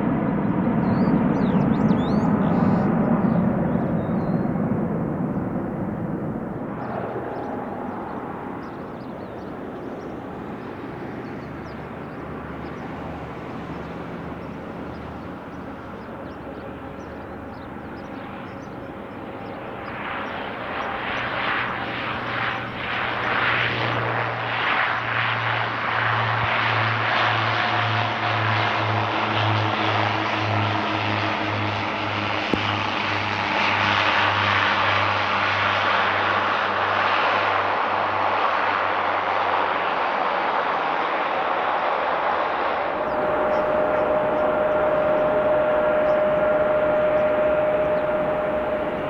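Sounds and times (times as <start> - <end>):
airplane engines roaring: 0.0 - 49.0.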